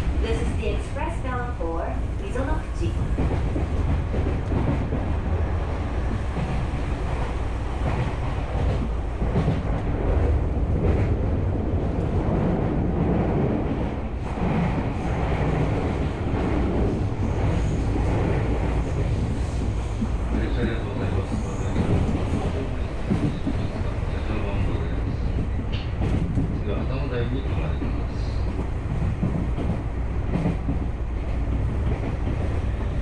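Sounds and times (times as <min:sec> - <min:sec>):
train wheels rumbling on rail: 0:00.0 - 0:33.0
wind noise: 0:02.0 - 0:33.0.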